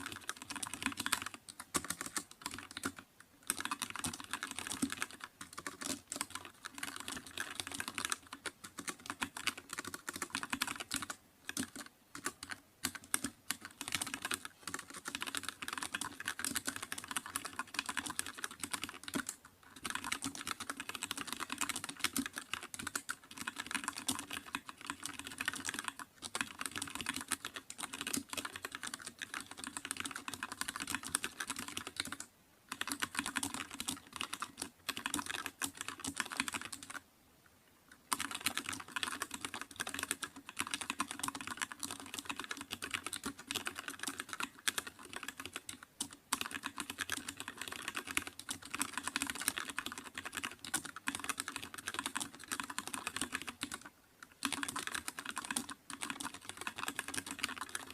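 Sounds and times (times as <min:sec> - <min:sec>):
keyboard typing: 0:00.0 - 0:37.0, 0:38.0 - 0:57.9.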